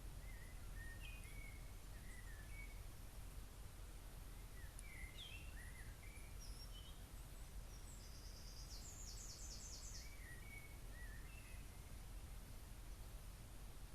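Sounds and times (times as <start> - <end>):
small birds singing: 0.0 - 13.9.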